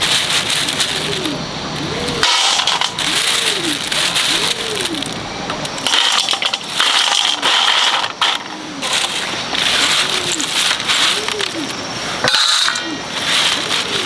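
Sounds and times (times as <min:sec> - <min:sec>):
dove cooing: 0:00.0 - 0:14.0
dry plant material crunching: 0:00.0 - 0:14.0.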